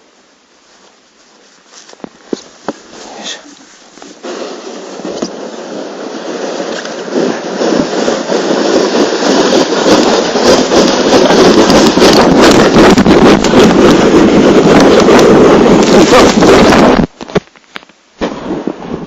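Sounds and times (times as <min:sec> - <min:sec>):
sled scraping on snow: 0:00.6 - 0:17.4
wind on microphone: 0:01.9 - 0:19.0.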